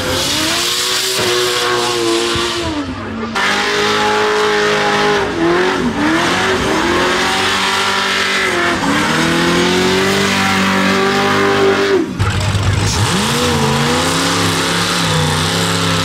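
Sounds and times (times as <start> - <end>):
buggy engine revving hard: 0.0 - 16.0.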